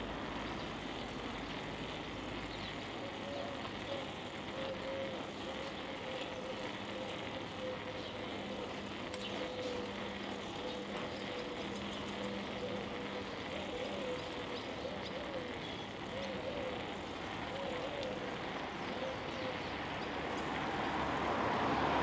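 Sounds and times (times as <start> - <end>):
faint steady hum: 0.0 - 21.0
bicycle tyre noise: 0.0 - 22.0.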